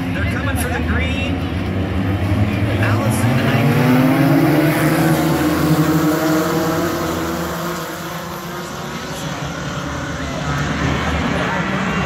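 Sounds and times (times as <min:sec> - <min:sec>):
race cars racing past: 0:00.0 - 0:12.0.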